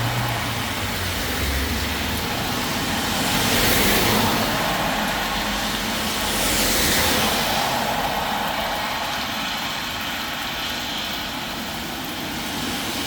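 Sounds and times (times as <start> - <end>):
rain: 0.0 - 13.0
tyres hissing on wet road: 0.0 - 13.0.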